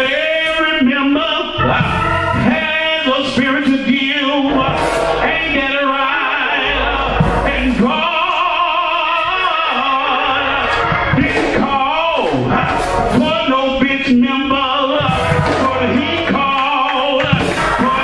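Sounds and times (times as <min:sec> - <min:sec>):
man singing into microphone: 0:00.0 - 0:18.0
musical accompaniment: 0:00.0 - 0:18.0.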